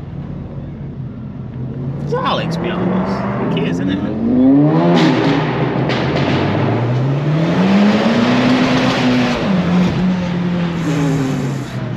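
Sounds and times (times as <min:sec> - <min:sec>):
car engine accelerating hard: 0:01.5 - 0:11.9.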